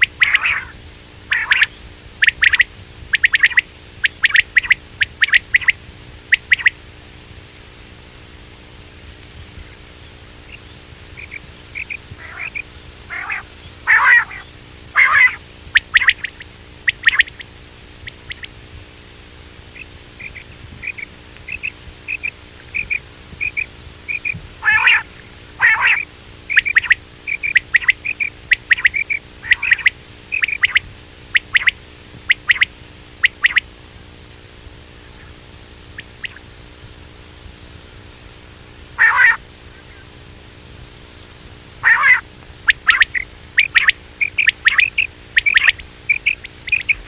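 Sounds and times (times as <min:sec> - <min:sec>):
harsh quail calls: 0:00.0 - 0:06.8, 0:09.6 - 0:18.6, 0:19.6 - 0:33.7, 0:34.9 - 0:36.9, 0:38.4 - 0:47.0
quail chirping: 0:00.0 - 0:06.8, 0:10.4 - 0:18.6, 0:19.7 - 0:33.7, 0:35.0 - 0:37.0, 0:37.6 - 0:40.2, 0:40.9 - 0:47.0.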